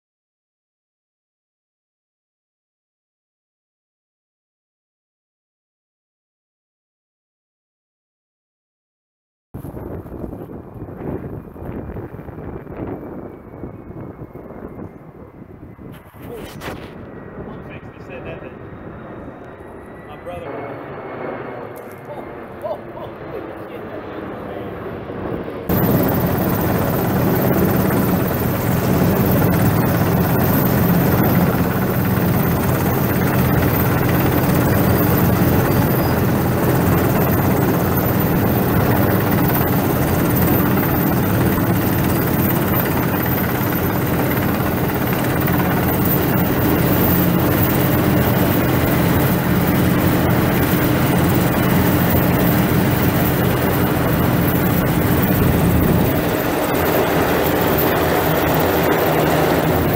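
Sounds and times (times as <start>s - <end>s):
helicopter hovering: 9.6s - 59.9s.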